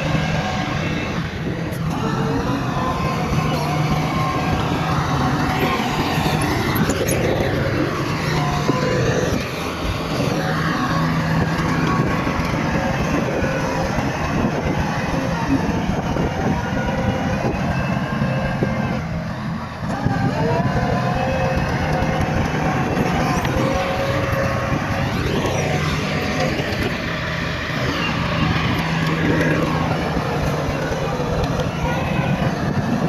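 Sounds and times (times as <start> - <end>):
bulldozer diesel engine drone: 0.0 - 33.0
high whining tones: 0.0 - 33.0.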